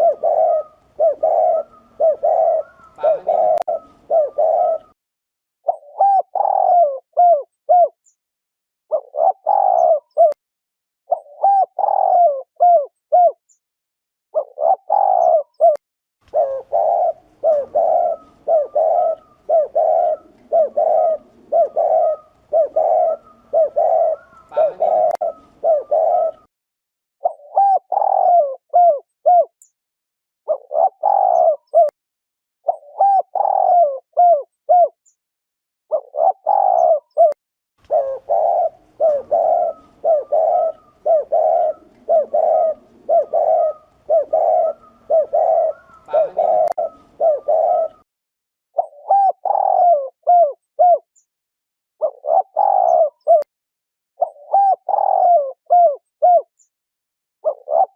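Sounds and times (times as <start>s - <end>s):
dove cooing: 0.0s - 5.0s, 5.7s - 8.0s, 8.9s - 10.4s, 11.1s - 13.4s, 14.4s - 26.5s, 27.2s - 29.5s, 30.5s - 31.9s, 32.7s - 35.0s, 35.9s - 48.0s, 48.8s - 51.1s, 52.0s - 53.5s, 54.2s - 56.5s, 57.4s - 57.9s.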